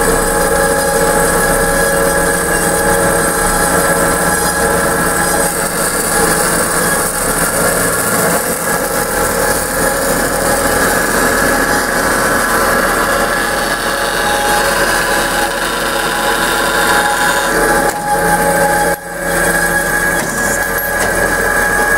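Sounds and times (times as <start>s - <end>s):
band saw running: 0.0s - 21.9s.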